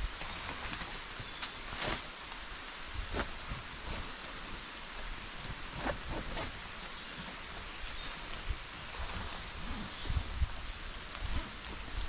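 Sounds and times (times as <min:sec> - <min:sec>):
rain falling on forest: 0:00.0 - 0:12.0.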